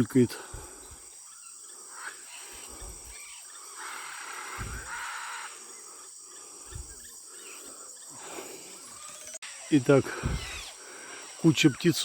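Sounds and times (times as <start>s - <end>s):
harsh raspy bird calls: 0.0s - 12.0s
high insect chorus: 0.0s - 12.0s.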